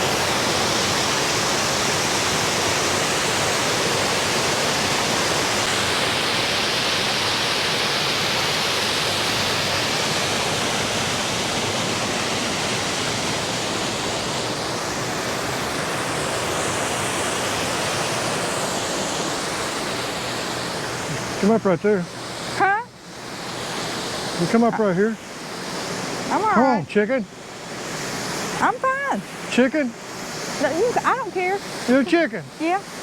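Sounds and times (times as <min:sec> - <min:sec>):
waterfall pouring and splashing: 0:00.0 - 0:33.0.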